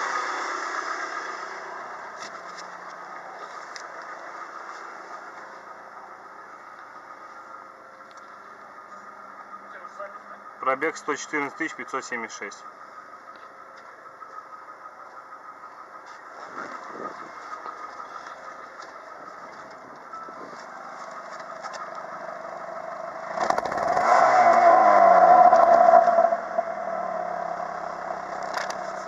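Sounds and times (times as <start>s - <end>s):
car engine exhaust running: 0.0s - 11.8s, 12.4s - 29.0s.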